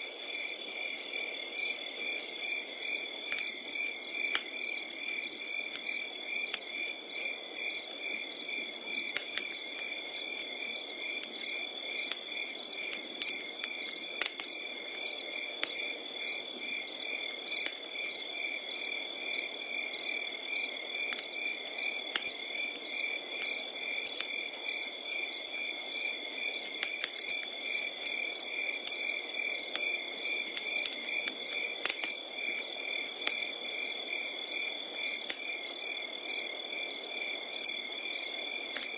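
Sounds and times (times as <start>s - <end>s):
crickets chirping: 0.0s - 38.9s
wood fire crackling and popping: 0.0s - 38.9s.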